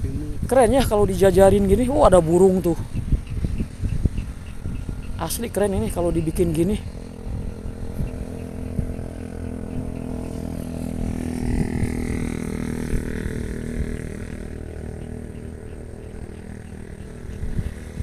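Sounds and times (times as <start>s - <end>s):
motor hum: 0.0s - 18.0s.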